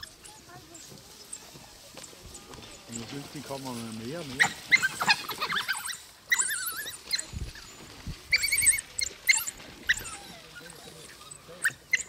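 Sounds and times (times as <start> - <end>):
wild dogs twittering: 0.0 - 12.0.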